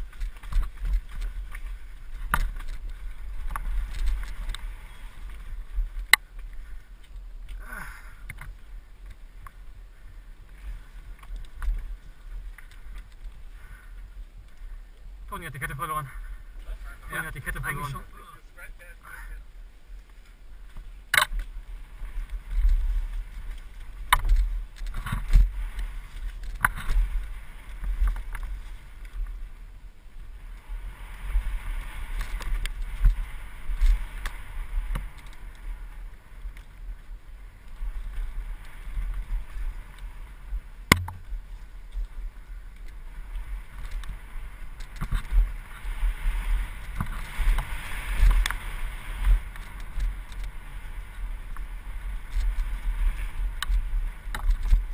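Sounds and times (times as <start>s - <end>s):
bike rattling over bumps: 0.0s - 14.5s, 20.3s - 54.9s
bike tyres on dirt: 0.0s - 54.9s
wind rumble on microphone: 0.0s - 54.9s.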